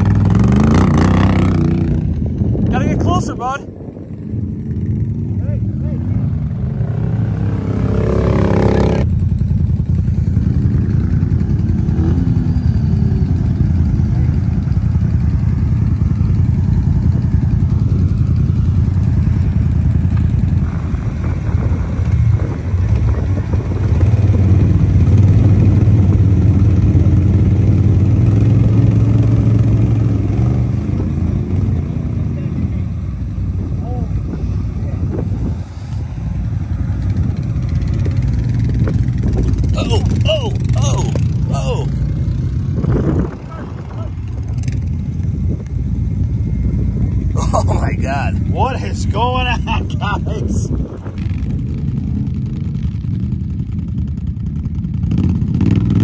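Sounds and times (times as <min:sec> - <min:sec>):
atv engine revving under load: 0:00.0 - 0:03.1, 0:06.0 - 0:32.9, 0:33.8 - 0:56.0.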